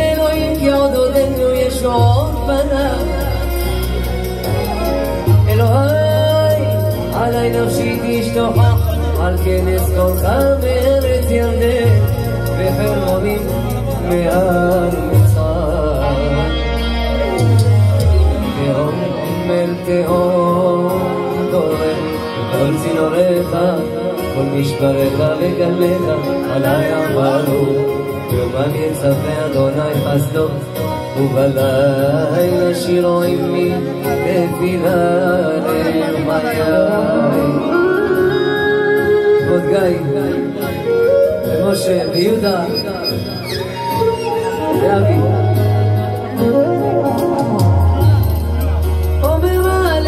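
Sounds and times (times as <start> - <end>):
man singing into a microphone: 0.0 - 50.0
musical backing: 0.0 - 50.0
second man singing: 0.0 - 50.0.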